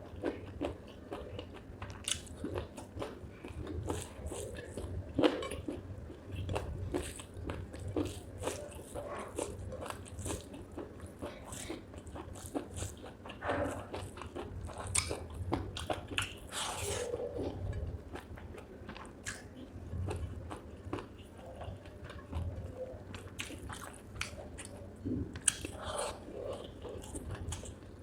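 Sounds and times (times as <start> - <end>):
chewing and crunching: 0.0 - 28.0.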